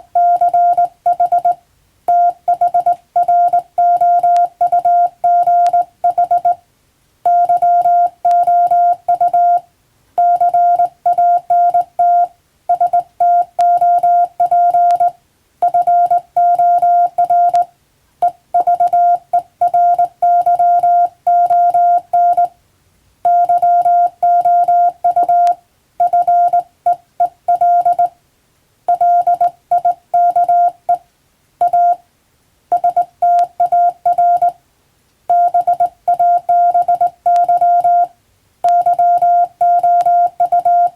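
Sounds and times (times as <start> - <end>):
morse code beeps: 0.0 - 6.6, 7.3 - 9.6, 10.2 - 22.6, 23.2 - 28.1, 28.9 - 31.0, 31.6 - 32.0, 32.7 - 34.6, 35.3 - 40.9.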